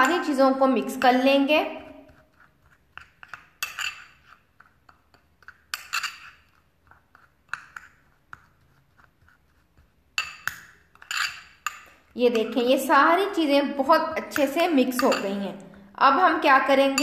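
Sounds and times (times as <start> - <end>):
metal spoon scraping ceramic bowl: 0.0 - 17.0.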